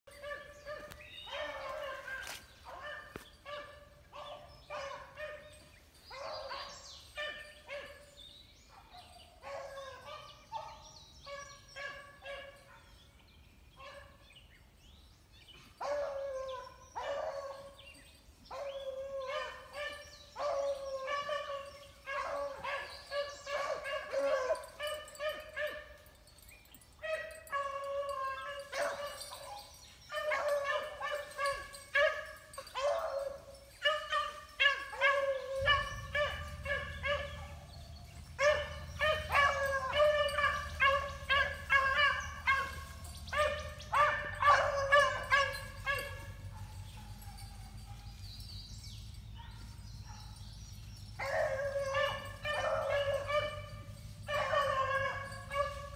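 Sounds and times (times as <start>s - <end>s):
beagles baying: 0.1s - 12.9s, 15.6s - 55.9s.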